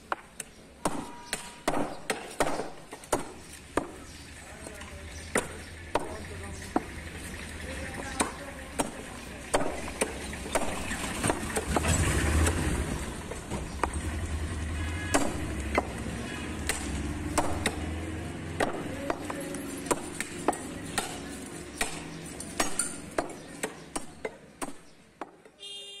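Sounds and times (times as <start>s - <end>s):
cleaver chopping on wooden block: 0.1s - 4.1s, 5.3s - 7.0s, 8.0s - 12.7s, 15.0s - 25.5s.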